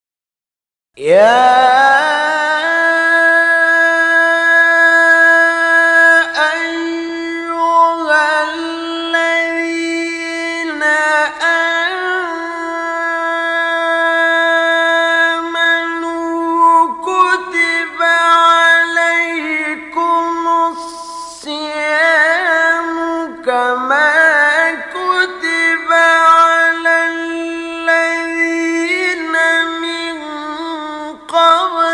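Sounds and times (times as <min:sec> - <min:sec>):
solo voice singing: 0:01.0 - 0:31.9.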